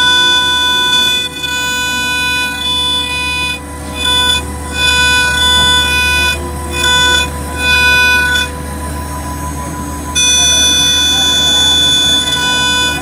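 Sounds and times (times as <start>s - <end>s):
high ringing cutting tone: 0.0s - 13.0s
spindle whining: 0.0s - 13.0s
steady low hum: 0.0s - 13.0s.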